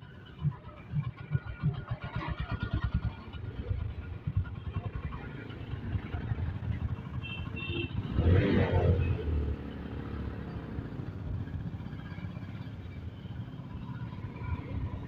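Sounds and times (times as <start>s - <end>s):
motorcycle engine and wind rumble: 0.0s - 15.0s.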